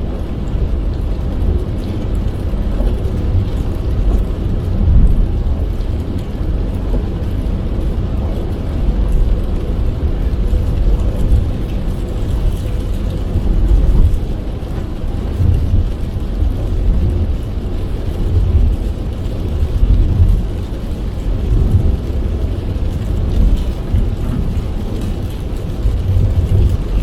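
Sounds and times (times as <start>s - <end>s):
car tyres and engine rumbling: 0.0s - 27.0s
rain hissing on car: 0.0s - 27.0s.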